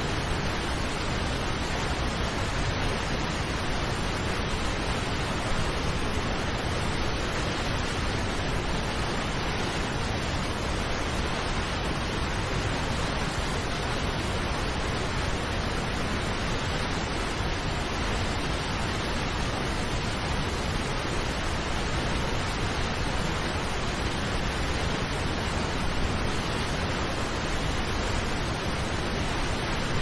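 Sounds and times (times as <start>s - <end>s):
large waterfall rushing: 0.0s - 30.0s.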